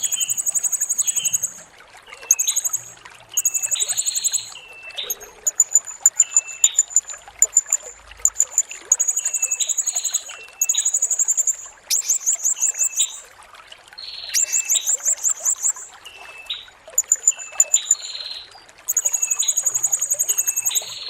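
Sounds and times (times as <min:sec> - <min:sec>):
parrot high-pitched trills: 0:00.0 - 0:01.6, 0:02.3 - 0:13.2, 0:14.2 - 0:16.0, 0:17.0 - 0:21.0
parrot lower chirps: 0:00.0 - 0:01.6, 0:02.2 - 0:13.3, 0:14.0 - 0:16.3, 0:17.0 - 0:21.0.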